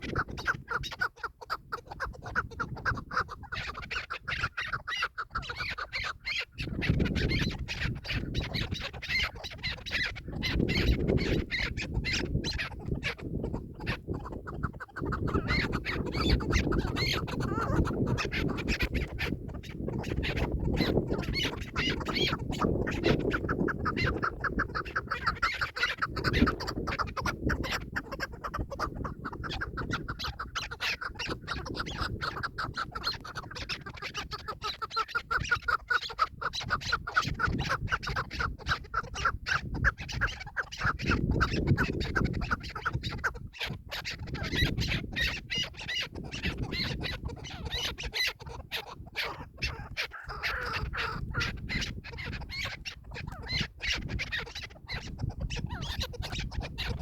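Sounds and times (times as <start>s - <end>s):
partridge clucking calls: 0.0s - 57.0s.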